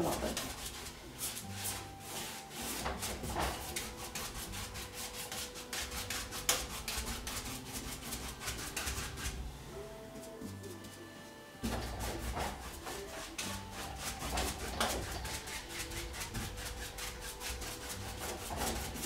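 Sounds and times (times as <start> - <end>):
paintbrush scrubbing canvas: 0.0 - 9.4, 10.2 - 19.0.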